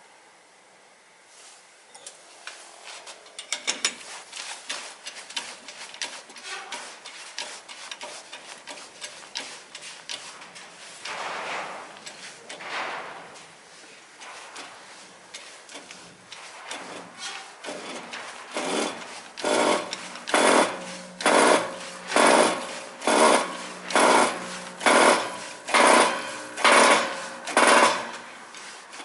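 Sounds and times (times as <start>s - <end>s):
short rubbing swishes: 4.0s - 29.0s.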